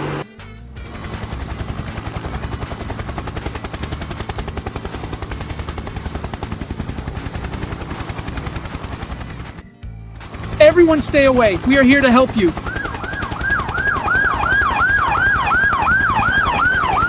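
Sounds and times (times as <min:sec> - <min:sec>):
helicopter rotor chopping: 0:00.8 - 0:17.0.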